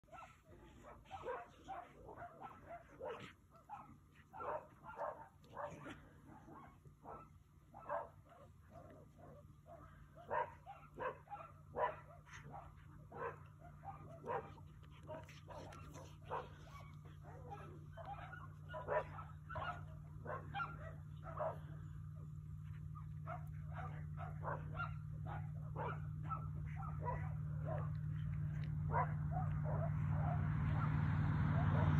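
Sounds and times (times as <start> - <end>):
coyotes yipping and barking: 0.1 - 31.9
vehicle engine hum: 0.1 - 31.9.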